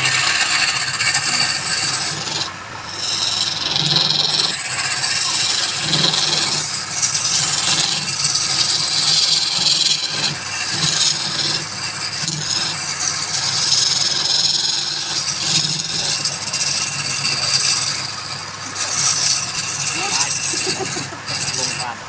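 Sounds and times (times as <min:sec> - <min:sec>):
lathe motor low hum: 0:00.0 - 0:22.0
turning tool scraping spinning wood: 0:00.0 - 0:22.0.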